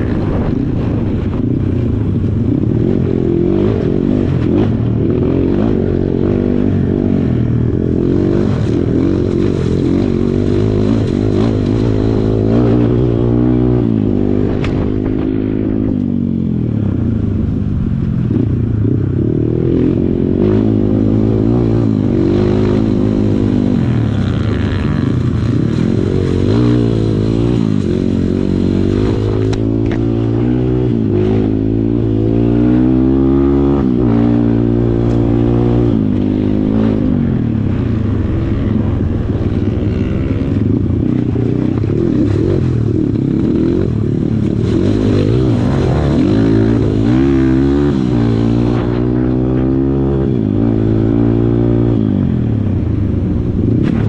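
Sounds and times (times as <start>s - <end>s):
dirt bike engine revving: 0.0s - 52.8s.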